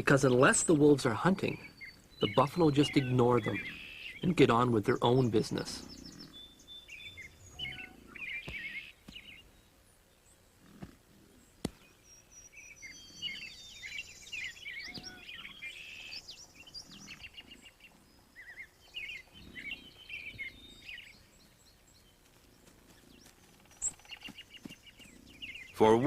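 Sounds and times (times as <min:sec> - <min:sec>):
small birds chirping and trilling: 0:00.0 - 0:26.0.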